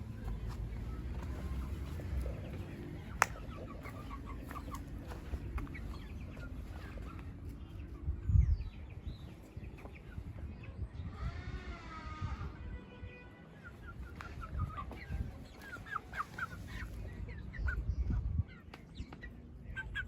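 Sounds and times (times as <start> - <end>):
chickens clucking: 0.0 - 12.6, 13.6 - 20.0.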